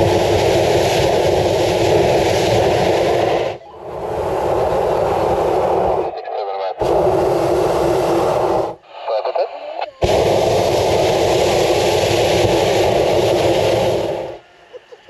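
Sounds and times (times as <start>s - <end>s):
propane burner firing: 0.0s - 6.1s, 6.8s - 8.8s, 10.0s - 14.5s.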